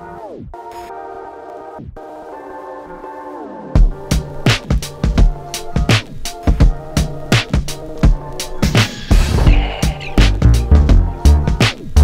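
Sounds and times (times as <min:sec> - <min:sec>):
held synthesizer chords: 0:00.0 - 0:12.0.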